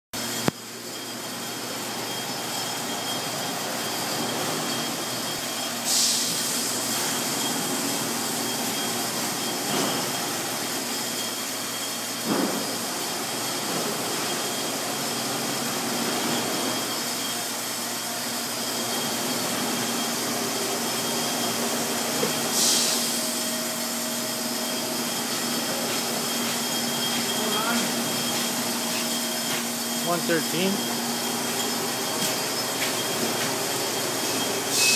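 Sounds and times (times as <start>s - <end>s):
industrial washer machinery: 0.2s - 34.9s.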